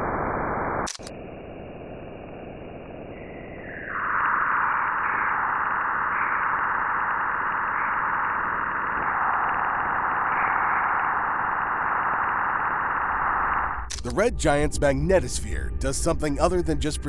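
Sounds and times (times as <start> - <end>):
eerie hissing whistle: 1.1 - 17.0.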